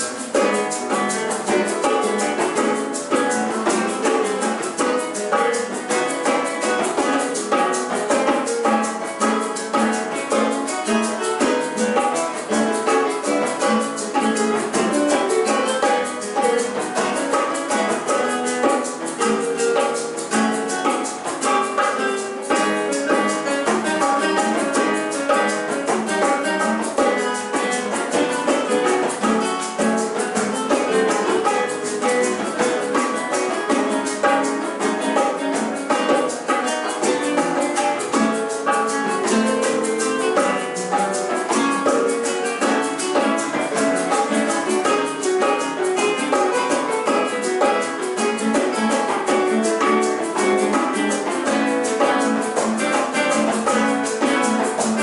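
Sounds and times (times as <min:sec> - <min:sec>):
classical guitars playing: 0:00.0 - 0:55.0.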